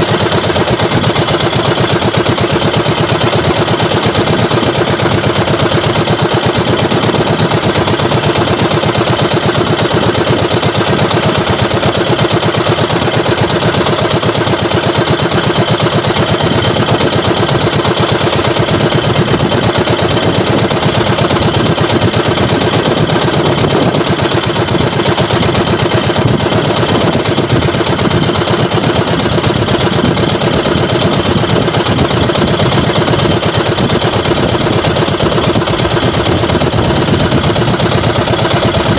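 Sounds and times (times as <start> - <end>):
small boat engine chugging: 0.0 - 38.9.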